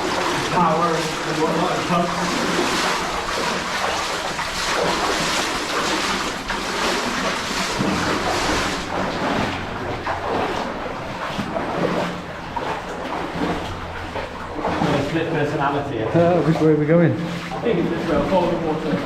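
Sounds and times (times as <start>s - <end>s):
wading through water: 0.0s - 19.0s.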